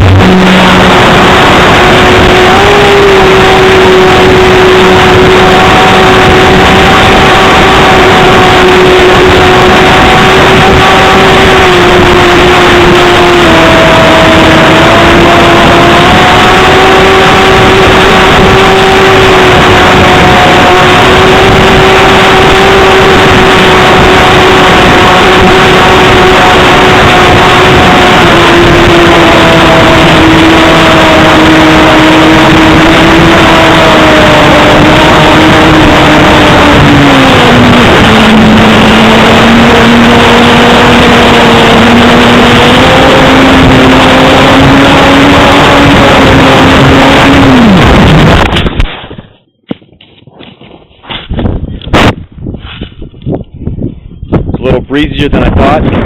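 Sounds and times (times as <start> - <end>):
model plane motor whine: 0.0 - 48.9
wind noise on microphone: 0.0 - 56.0.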